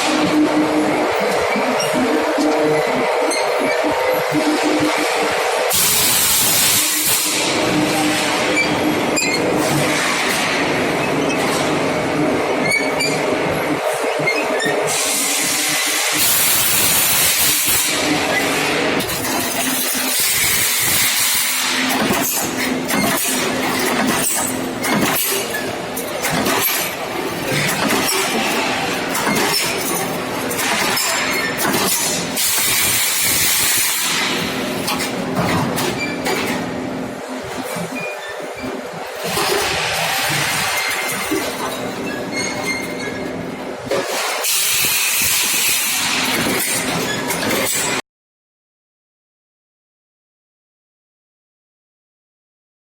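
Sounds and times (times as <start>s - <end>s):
forming machinery hissing and clattering: 0.0s - 48.0s.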